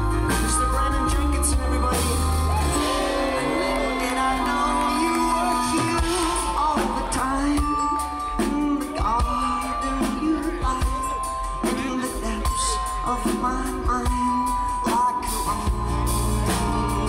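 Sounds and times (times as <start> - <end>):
acoustic guitar: 0.0 - 17.0
man singing: 0.0 - 17.0.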